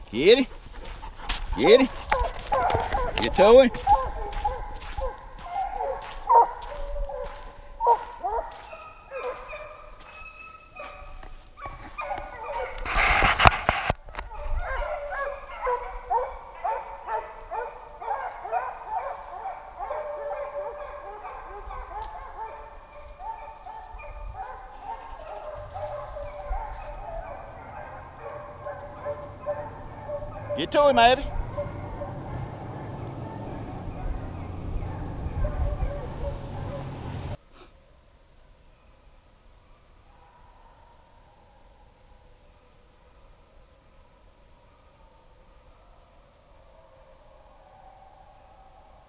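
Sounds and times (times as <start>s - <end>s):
hounds baying and yelping: 0.0s - 37.4s, 38.6s - 43.3s.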